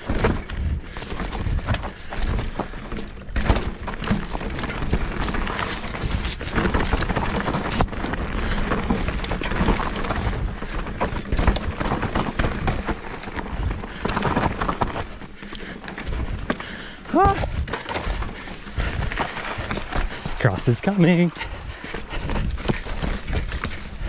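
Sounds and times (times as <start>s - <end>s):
bike rattling: 0.0s - 24.0s
bike tyres rumbling on dirt: 0.0s - 24.0s.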